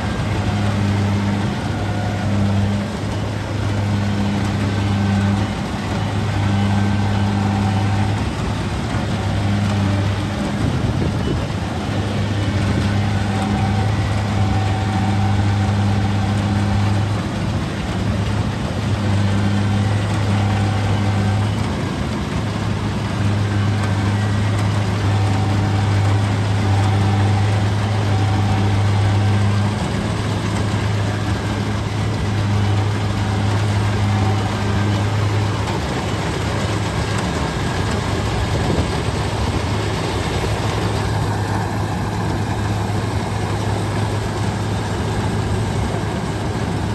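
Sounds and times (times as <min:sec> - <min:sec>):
combine harvester diesel engine: 0:00.0 - 0:46.9.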